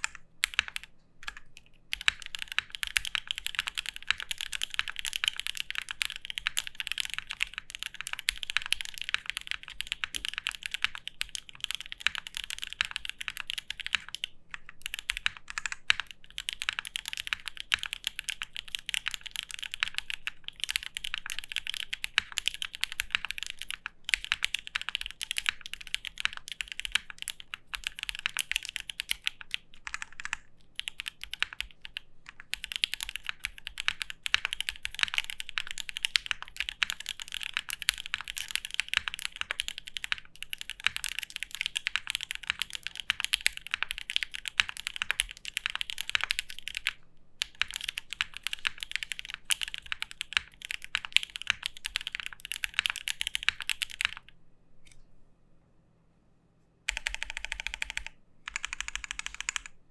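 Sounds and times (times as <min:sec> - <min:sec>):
mechanical keyboard typing: 0:00.0 - 0:54.3, 0:56.9 - 0:59.8.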